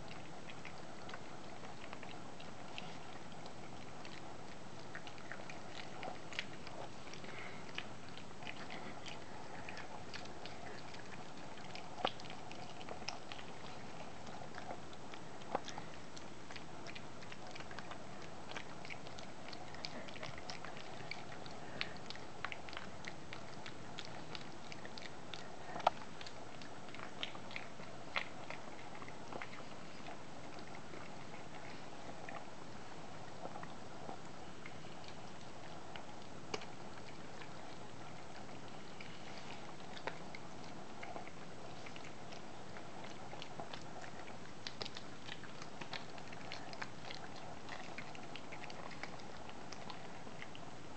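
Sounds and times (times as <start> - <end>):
puppies crunching treats: 0.0 - 50.9.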